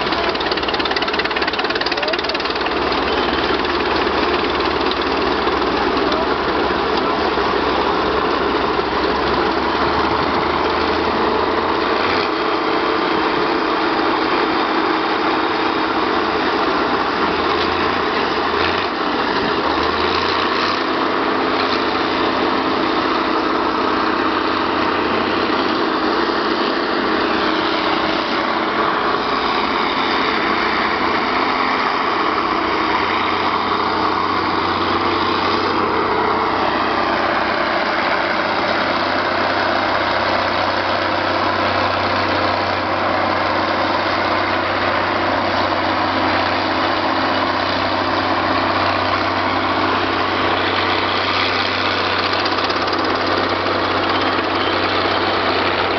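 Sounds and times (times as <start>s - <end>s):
steam shovels working: 0.0s - 55.9s
tractor and scraper engines: 0.0s - 55.9s.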